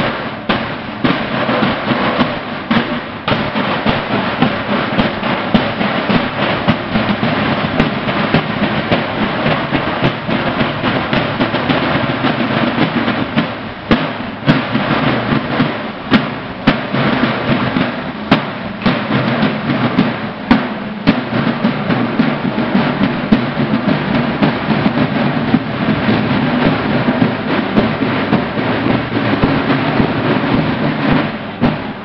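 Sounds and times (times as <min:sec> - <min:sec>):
sharp snare strikes: 0:00.0 - 0:32.0
snare drum rolls: 0:00.0 - 0:32.0.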